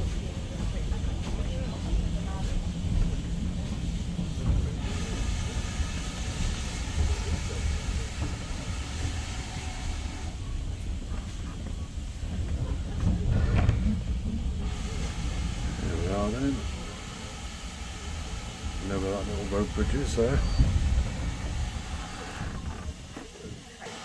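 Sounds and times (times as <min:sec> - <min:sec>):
steam hiss: 0:00.0 - 0:24.0
train rumble: 0:00.0 - 0:24.0.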